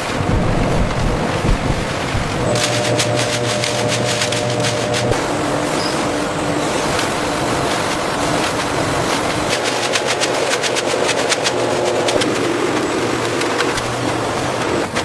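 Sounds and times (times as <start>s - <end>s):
factory machinery running: 0.0s - 15.0s
fast irregular clicking clatter: 2.2s - 15.0s.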